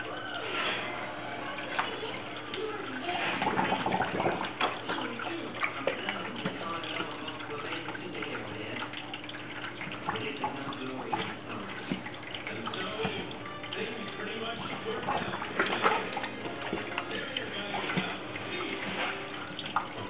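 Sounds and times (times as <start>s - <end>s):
faint pump hum: 0.0s - 20.0s
water trickling and splashing: 0.0s - 20.0s.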